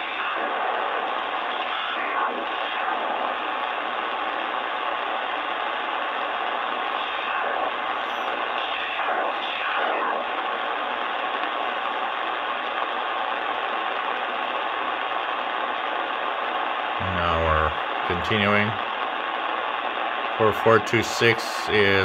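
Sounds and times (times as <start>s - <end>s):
shortwave radio hiss: 0.0s - 22.0s.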